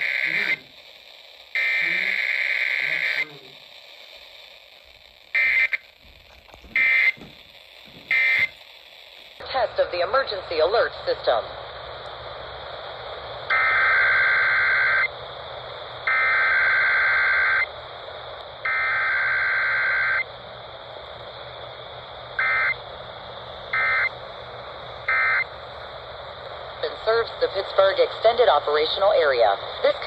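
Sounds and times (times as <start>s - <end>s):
buzzy data bursts: 0.0s - 11.5s, 13.0s - 17.7s, 18.6s - 20.8s, 21.4s - 30.0s
radio hiss: 0.0s - 30.0s.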